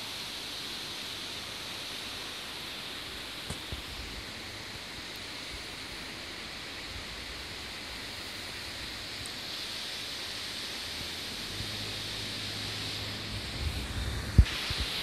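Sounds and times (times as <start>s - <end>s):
outdoor rushing hiss: 0.0s - 15.0s.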